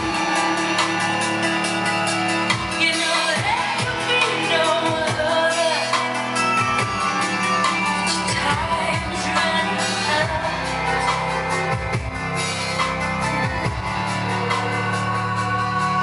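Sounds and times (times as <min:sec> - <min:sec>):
song with singing and drums: 0:00.0 - 0:16.0.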